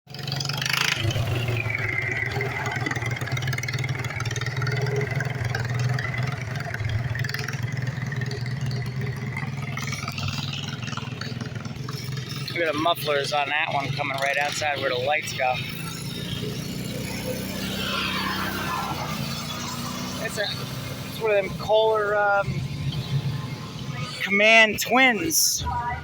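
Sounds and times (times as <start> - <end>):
small tractor engine running: 0.1 - 26.0.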